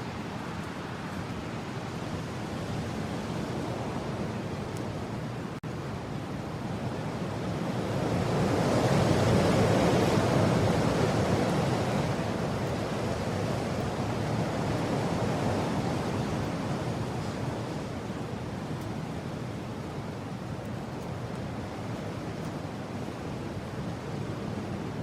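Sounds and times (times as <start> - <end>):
strong wind gust: 0.0 - 25.0.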